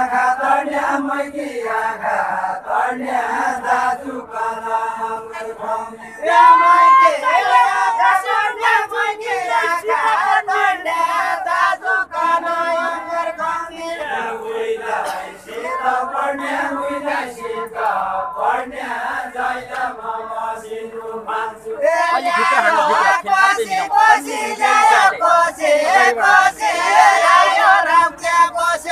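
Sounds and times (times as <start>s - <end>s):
group of voices singing: 0.0s - 28.9s.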